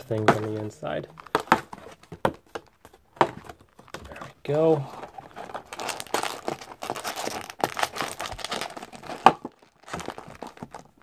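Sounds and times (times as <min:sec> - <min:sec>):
cardboard and paper crinkling: 0:00.0 - 0:11.0.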